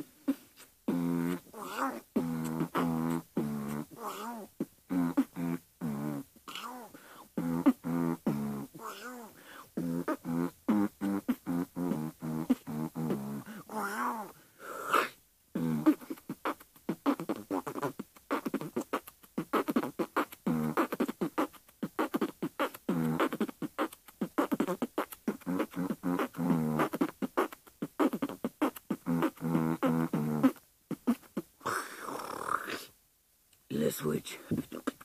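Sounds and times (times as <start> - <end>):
person beatboxing: 0.3 - 32.9, 34.0 - 35.0.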